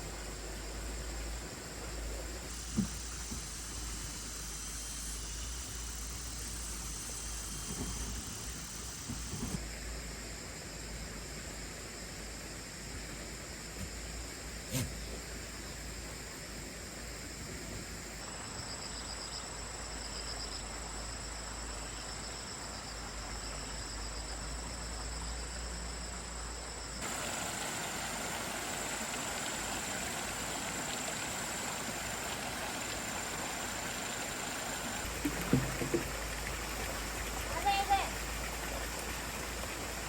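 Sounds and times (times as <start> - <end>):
background hiss: 0.0 - 40.0
insects trilling and buzzing: 0.0 - 40.0.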